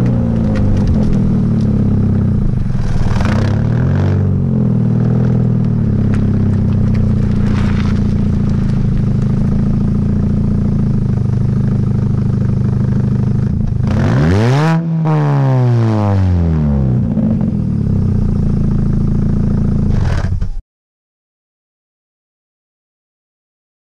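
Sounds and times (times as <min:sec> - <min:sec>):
car engine idling and revving: 0:00.0 - 0:20.6.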